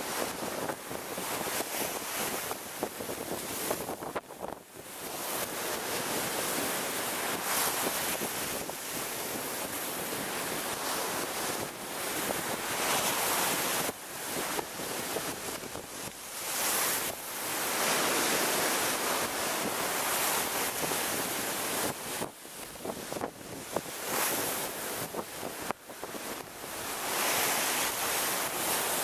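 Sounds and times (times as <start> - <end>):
sea waves crashing on wall: 0.0 - 29.0.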